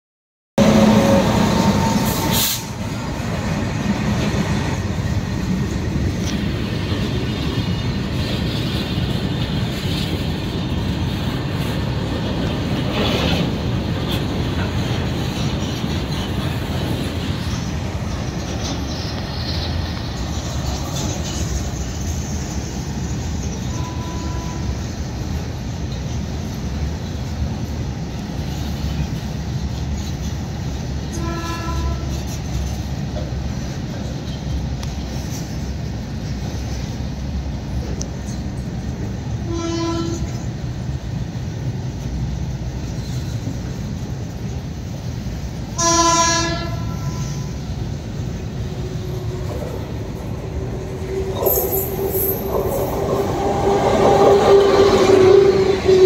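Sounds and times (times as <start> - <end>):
freight train rolling past: 0.6 - 56.0
wheel and rail noise: 0.6 - 56.0.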